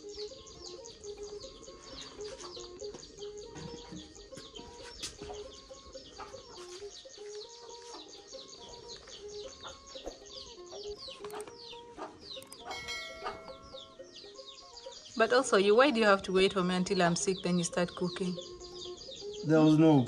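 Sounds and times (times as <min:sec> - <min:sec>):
birds chirping: 0:00.0 - 0:20.0
held notes simple tune: 0:00.0 - 0:20.0.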